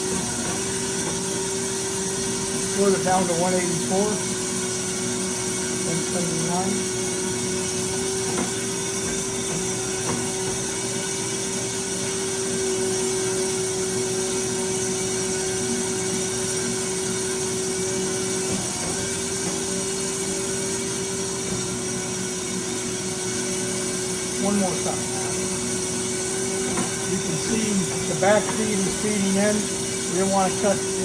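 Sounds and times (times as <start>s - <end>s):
band saw running: 0.0s - 31.0s.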